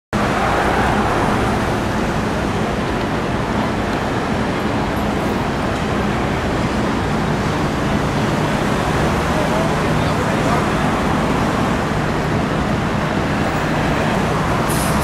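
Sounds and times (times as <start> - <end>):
city street traffic: 0.1 - 15.0.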